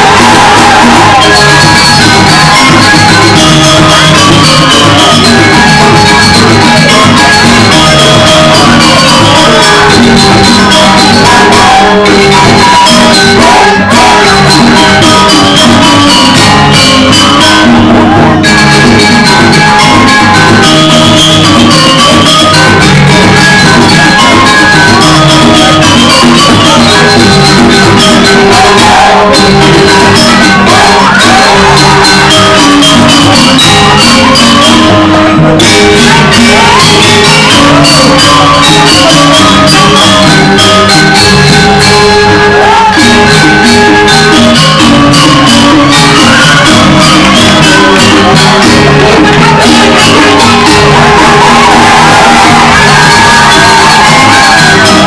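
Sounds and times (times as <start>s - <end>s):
gamelan music: 0.0s - 55.0s
people shouting and whooping: 0.0s - 55.0s.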